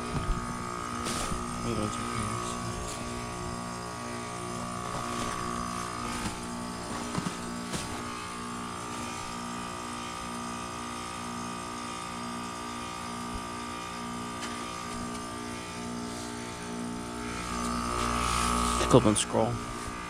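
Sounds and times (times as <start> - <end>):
heat pump hum: 0.0 - 20.0
high steady whine: 0.0 - 20.0.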